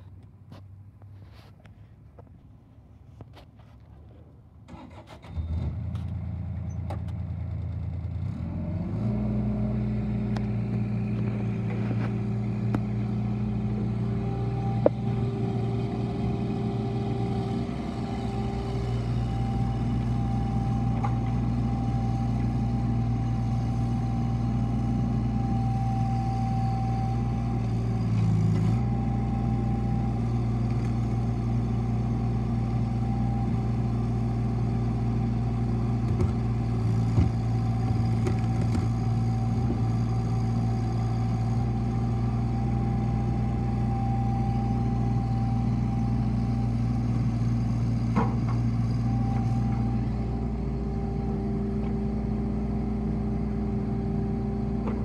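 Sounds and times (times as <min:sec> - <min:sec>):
excavator diesel engine running: 0:04.0 - 0:55.0.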